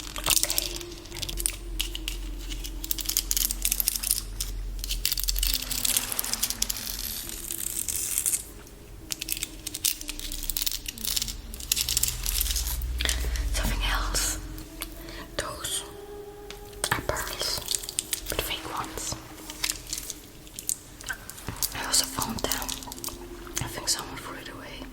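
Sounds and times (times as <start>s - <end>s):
faint low hum: 0.0s - 24.9s
objects crinkling and crackling: 0.0s - 24.9s.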